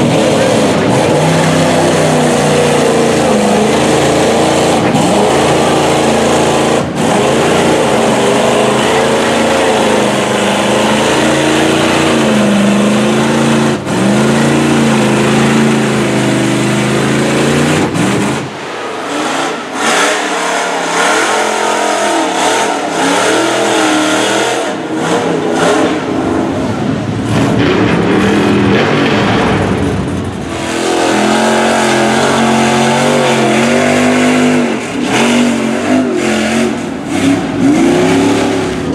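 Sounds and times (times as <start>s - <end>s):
distant truck roar: 0.0s - 38.9s
mud trucks revving: 0.0s - 38.9s.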